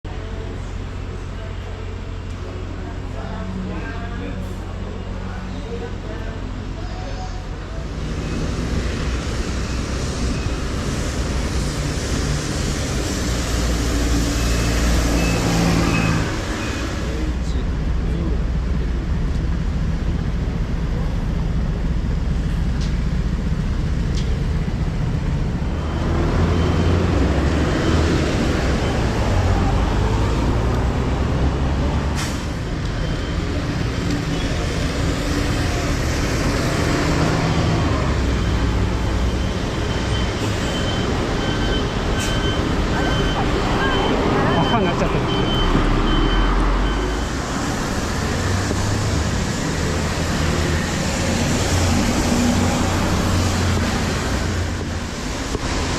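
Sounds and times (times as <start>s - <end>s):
city traffic rumble: 0.0s - 55.9s
heavy vehicles passing: 0.1s - 55.9s.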